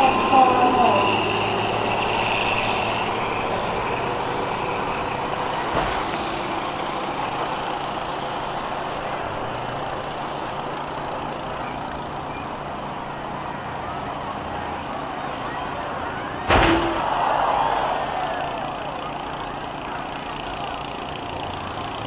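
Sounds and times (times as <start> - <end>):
bus engines running: 0.0 - 22.0.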